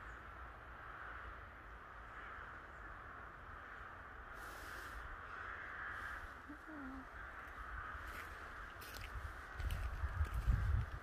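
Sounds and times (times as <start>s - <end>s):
crows cawing: 0.8s - 10.5s.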